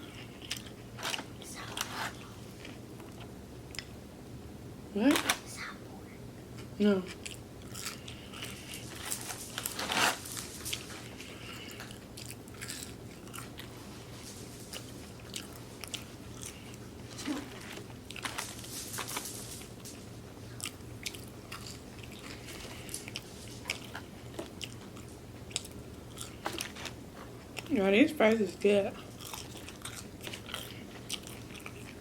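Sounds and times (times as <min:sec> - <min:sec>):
person chewing food: 0:00.0 - 0:04.0, 0:06.6 - 0:27.7, 0:29.0 - 0:32.0.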